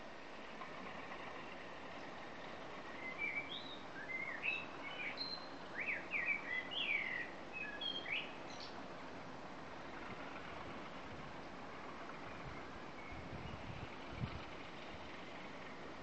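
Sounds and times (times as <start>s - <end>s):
songbird singing: 0.0s - 16.0s
steady background hum: 0.0s - 16.0s.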